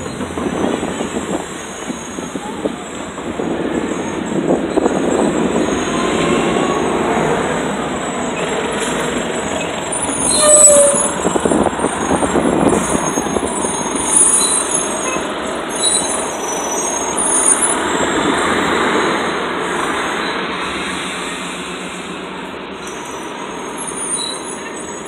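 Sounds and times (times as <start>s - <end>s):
bus diesel engine: 0.0s - 25.0s
street traffic noise: 0.0s - 25.0s.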